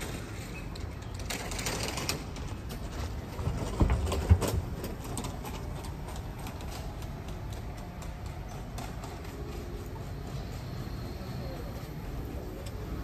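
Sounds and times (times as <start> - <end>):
distant traffic: 0.0 - 13.0.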